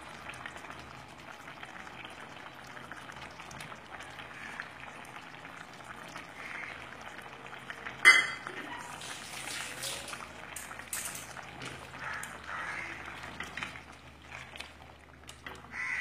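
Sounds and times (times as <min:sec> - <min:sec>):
chutney bubbling and popping: 0:00.0 - 0:16.0.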